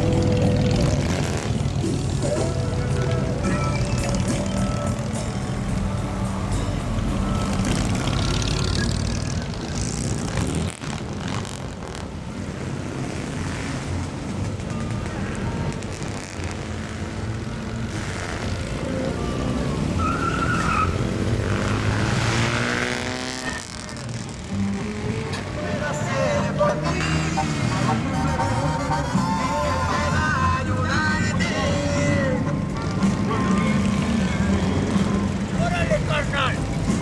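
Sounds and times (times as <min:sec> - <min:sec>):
car engines running low: 0:00.0 - 0:37.0.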